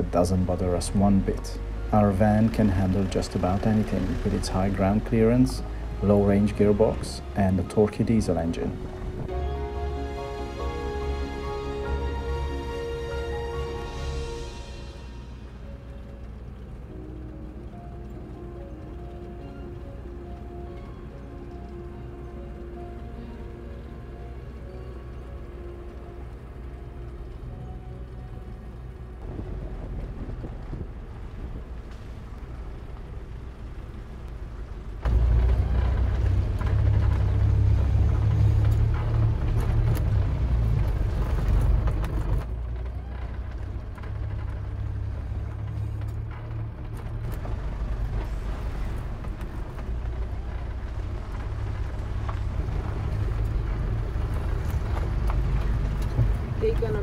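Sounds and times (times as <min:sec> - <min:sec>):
diesel van engine rumble: 0:00.0 - 0:57.0
tyres on gravel: 0:00.0 - 0:57.0.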